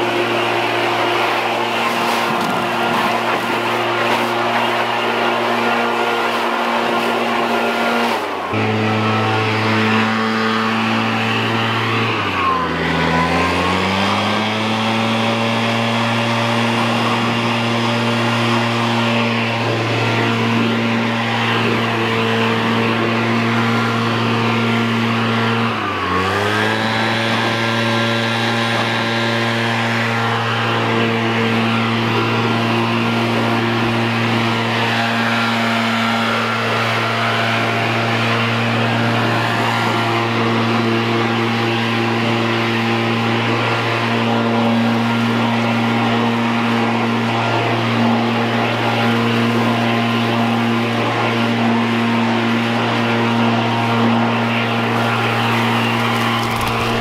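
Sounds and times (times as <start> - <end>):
leaf blower engine running: 0.0 - 57.0.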